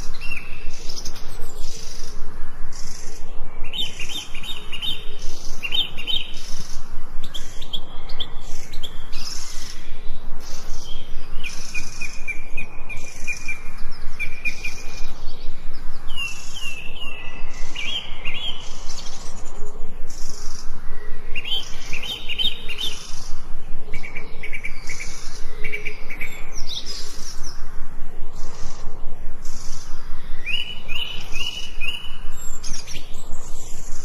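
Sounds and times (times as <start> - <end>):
background hiss: 0.0 - 34.0
birds chirping and singing: 0.0 - 34.0.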